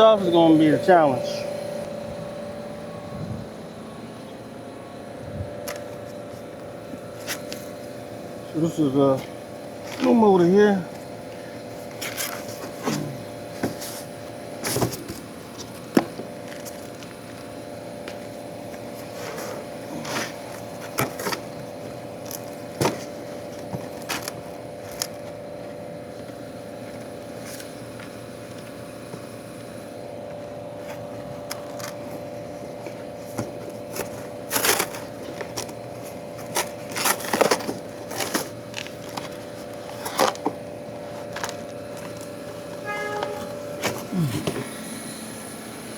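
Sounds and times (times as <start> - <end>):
steady machine hum: 0.0 - 45.9.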